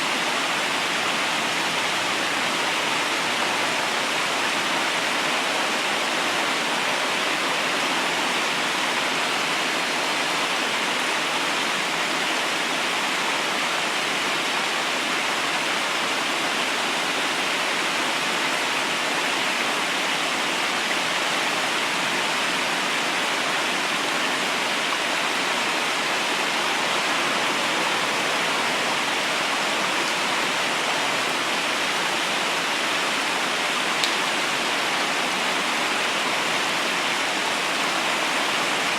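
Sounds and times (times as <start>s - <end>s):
river water rushing over stones: 0.0s - 38.9s.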